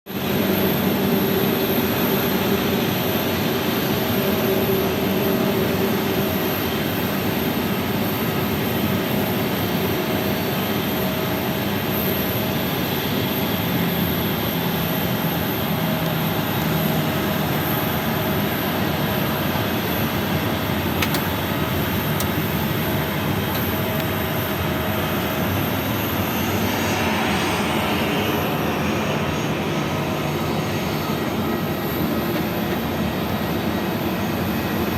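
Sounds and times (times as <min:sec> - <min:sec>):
jet engines rumbling with whine: 0:00.1 - 0:34.9.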